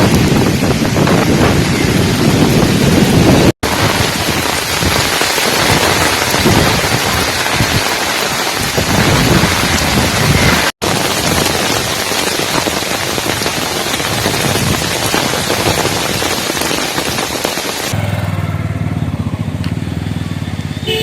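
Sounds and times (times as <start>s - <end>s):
loud roar of wind: 0.0s - 19.6s.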